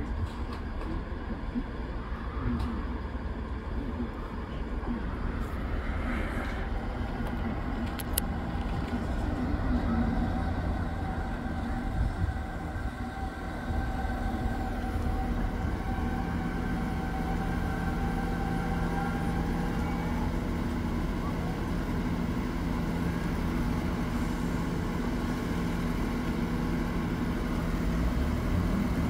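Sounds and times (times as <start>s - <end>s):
train engines rumbling: 0.0s - 29.0s
train whine: 0.0s - 29.0s.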